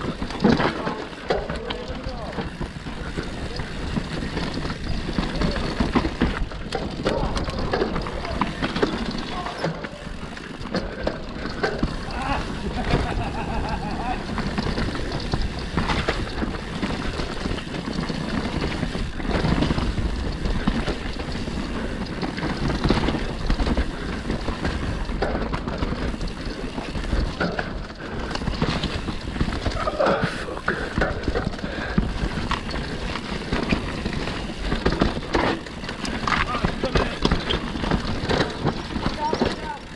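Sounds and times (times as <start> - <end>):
bike clattering over rocks: 0.0 - 39.9.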